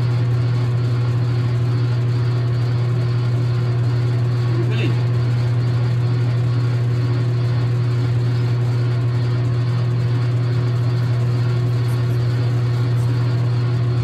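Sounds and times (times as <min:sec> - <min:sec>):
metal lathe running: 0:00.0 - 0:14.0.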